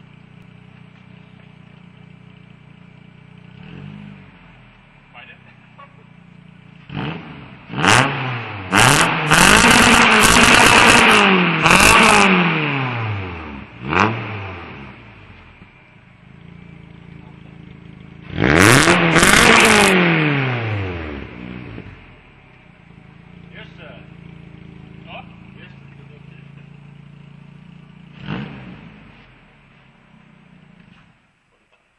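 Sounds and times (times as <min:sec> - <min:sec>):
car engine revving: 0:00.0 - 0:31.3.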